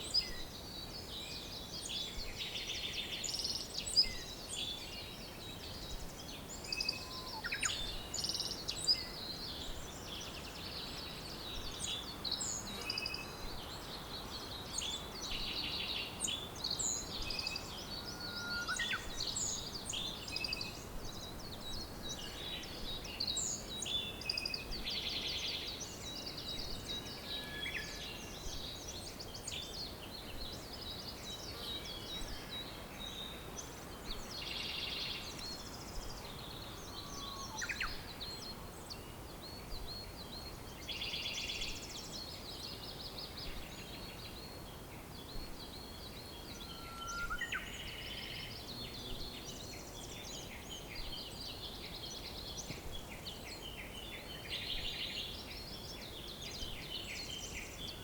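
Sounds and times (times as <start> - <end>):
songbirds singing and calling: 0.0 - 58.0
steady background hiss: 0.0 - 58.0.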